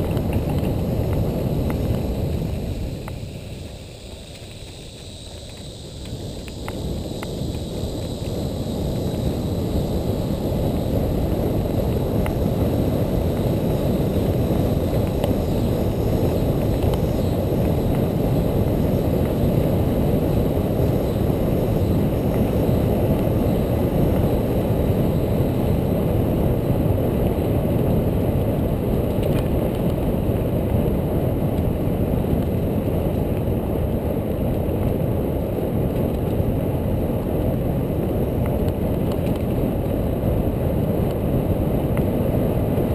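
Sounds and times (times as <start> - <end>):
bicycle tyres rolling on dirt: 0.0 - 42.9
wind buffeting microphone: 0.0 - 42.9.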